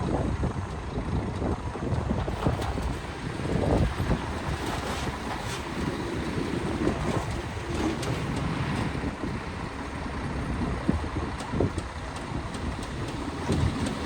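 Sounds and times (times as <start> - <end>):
heavy machinery diesel engine rumble: 0.0 - 14.0
wind buffeting microphone: 0.0 - 14.0.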